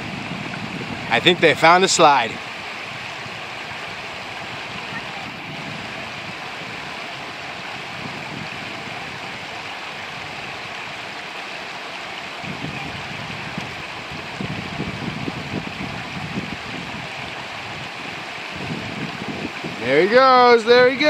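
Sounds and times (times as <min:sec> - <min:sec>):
creek rushing over boulders: 0:00.0 - 0:21.0.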